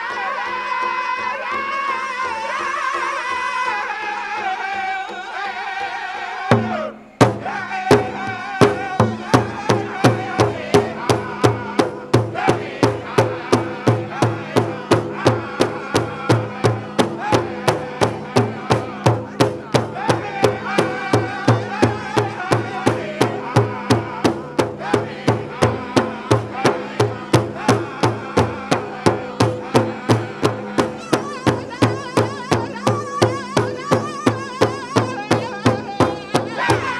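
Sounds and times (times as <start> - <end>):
group singing: 0.0 - 36.9
big drum beating steadily: 6.5 - 36.9.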